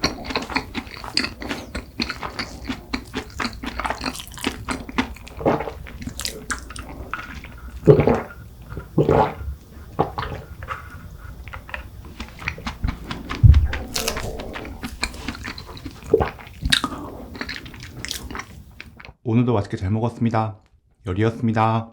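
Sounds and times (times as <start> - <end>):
wet mouth clicks: 0.0 - 19.1
chewing flaky pastry: 0.0 - 19.2.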